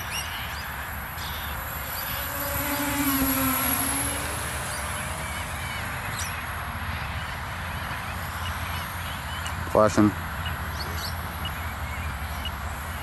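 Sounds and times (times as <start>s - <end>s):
quadcopter motor hum: 0.0s - 13.0s.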